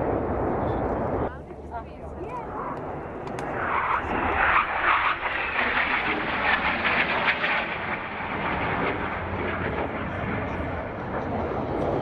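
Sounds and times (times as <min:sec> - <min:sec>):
fighter jets flying past: 0:00.0 - 0:12.0.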